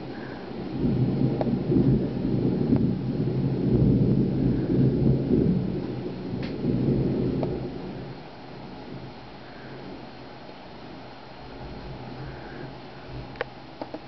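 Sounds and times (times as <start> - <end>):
thunder rumble: 0.0 - 14.0.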